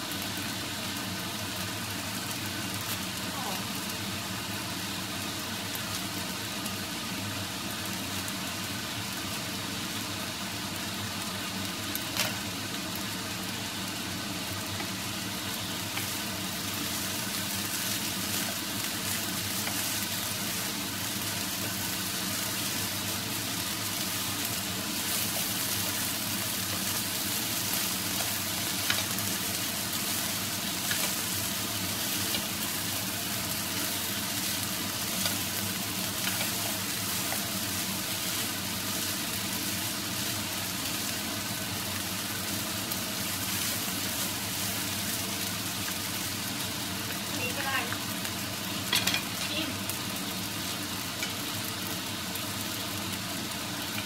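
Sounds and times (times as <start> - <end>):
fried rice sizzling in a pan: 0.0 - 54.0.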